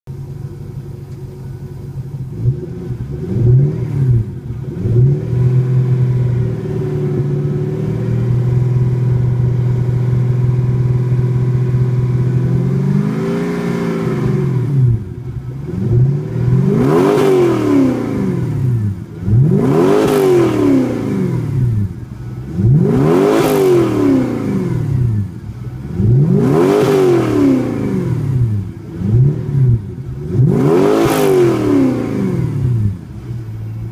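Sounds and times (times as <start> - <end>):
engine revving: 2.2 - 33.9.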